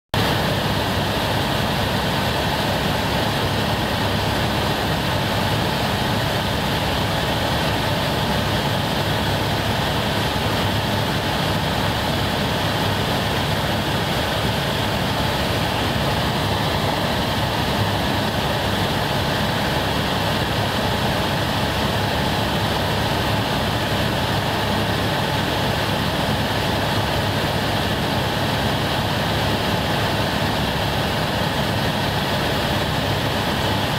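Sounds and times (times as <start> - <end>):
helicopter engine and rotor: 0.3 - 33.9.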